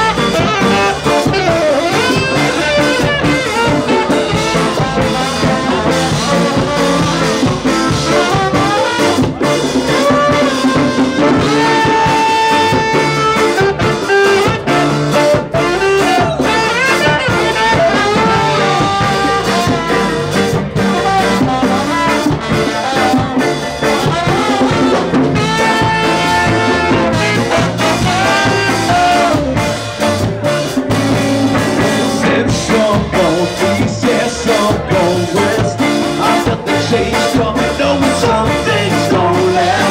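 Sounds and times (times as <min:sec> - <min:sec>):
bass: 0:00.0 - 0:39.9
brass horns: 0:00.0 - 0:39.9
drums: 0:00.0 - 0:39.9
electric guitar: 0:00.0 - 0:39.9.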